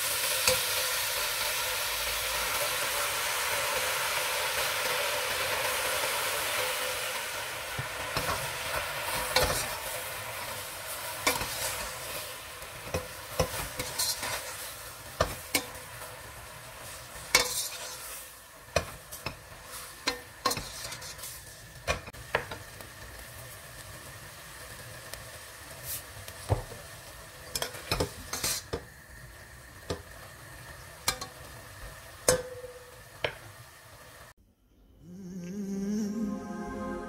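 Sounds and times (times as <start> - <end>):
spinach sizzling in oil: 0.0 - 34.4.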